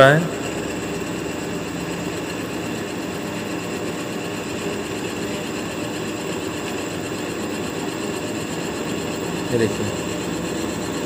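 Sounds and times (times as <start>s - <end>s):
drill press cutting steel: 0.0s - 11.0s.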